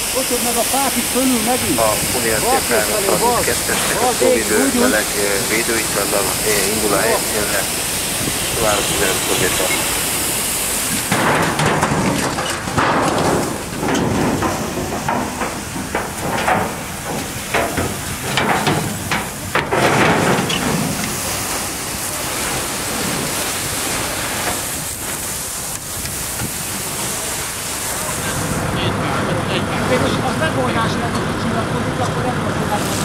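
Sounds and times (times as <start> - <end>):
fire hose spraying water: 0.0 - 33.0.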